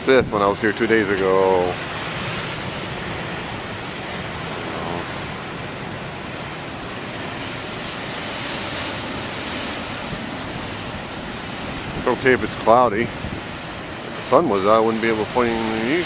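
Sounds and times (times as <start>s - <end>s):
ocean waves crashing: 0.0s - 16.0s.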